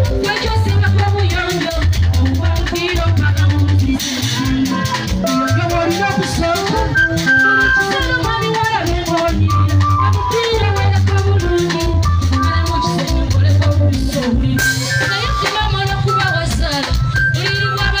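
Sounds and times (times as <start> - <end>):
fast rattling percussion: 0.0 - 18.0
live band music: 0.0 - 18.0.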